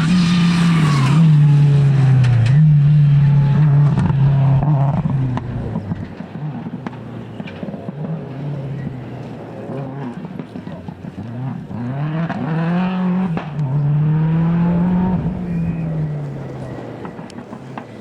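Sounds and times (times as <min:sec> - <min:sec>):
rally car engine passing by: 0:00.0 - 0:18.0.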